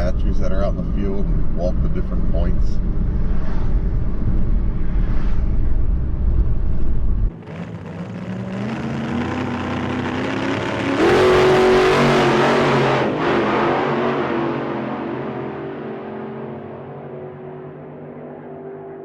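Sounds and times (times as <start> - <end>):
car engine accelerating: 0.0 - 19.0
low road rumble: 0.0 - 19.0.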